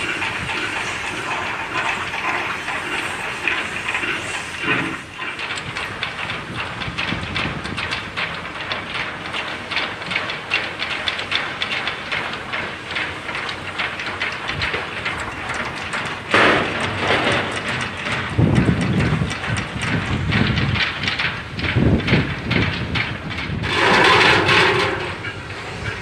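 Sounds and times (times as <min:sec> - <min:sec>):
metallic knocking and clatter: 0:00.0 - 0:26.0.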